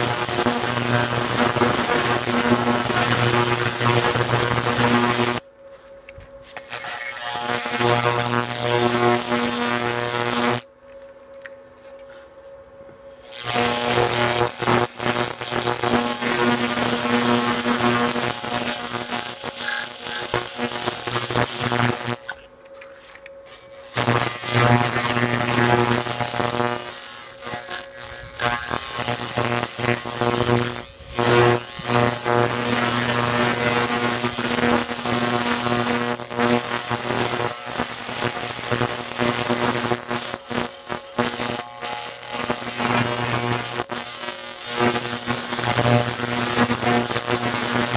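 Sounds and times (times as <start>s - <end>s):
laser crackling hiss: 0.0s - 5.4s, 6.6s - 10.6s, 13.2s - 22.4s, 23.4s - 47.9s
steady buzzing hum: 0.0s - 47.9s.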